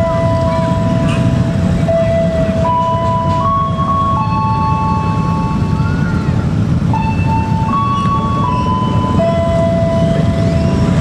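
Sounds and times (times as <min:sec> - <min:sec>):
engines idling: 0:00.0 - 0:11.0.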